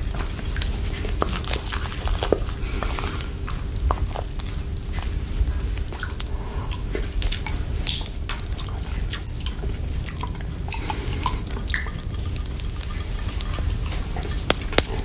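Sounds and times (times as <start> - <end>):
candy scooping whipped cream: 0.0 - 9.1, 10.7 - 15.0
wet mouth licking sounds: 0.0 - 15.0.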